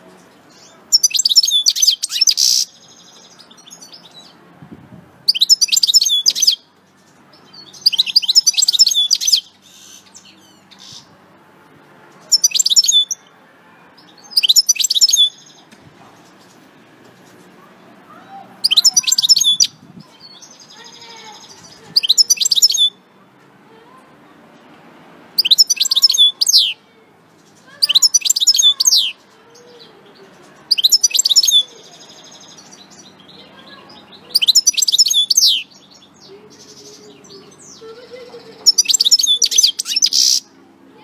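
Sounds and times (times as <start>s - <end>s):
finch twittering song: 0.1s - 4.4s, 5.3s - 11.2s, 12.1s - 13.3s, 14.0s - 17.5s, 18.6s - 23.1s, 25.4s - 26.8s, 27.4s - 40.6s.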